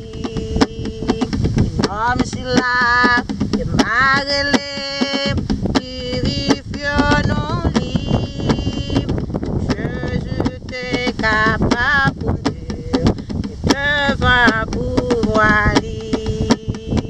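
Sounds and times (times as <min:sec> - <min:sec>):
sharp knocking beat: 0:00.0 - 0:17.0
woman singing unaccompanied: 0:00.0 - 0:17.0.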